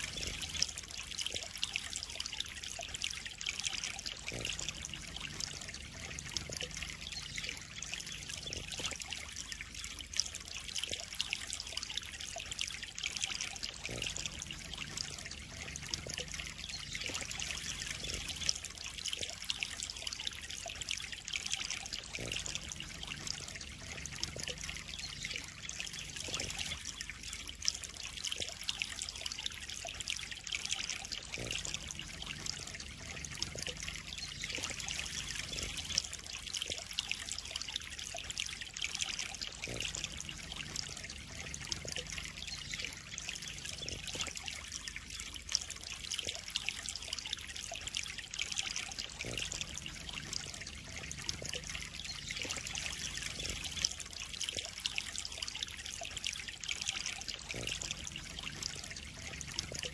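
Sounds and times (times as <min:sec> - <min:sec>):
water trickling into a pond: 0:00.0 - 0:59.9.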